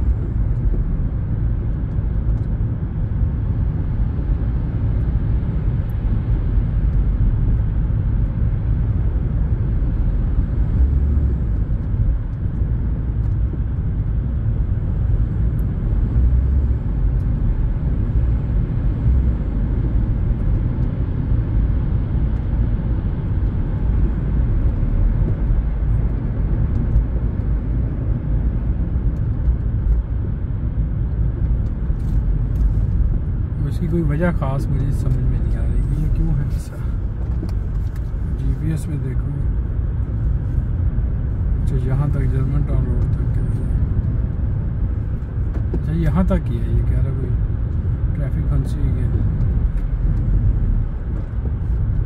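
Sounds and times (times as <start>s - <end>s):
car cabin road and engine rumble: 0.0s - 52.0s.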